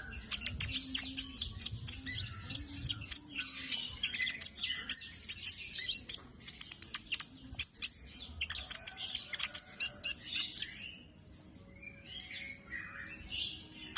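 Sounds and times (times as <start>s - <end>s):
high bird trill: 0.0s - 13.9s
songbird chirping: 0.0s - 13.9s.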